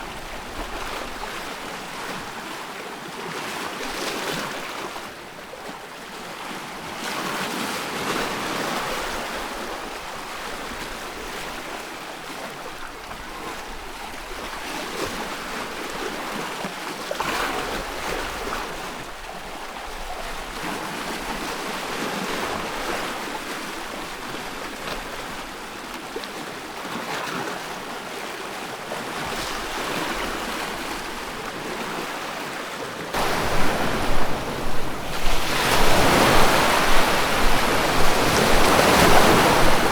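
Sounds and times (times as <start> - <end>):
ocean waves: 0.0 - 39.9.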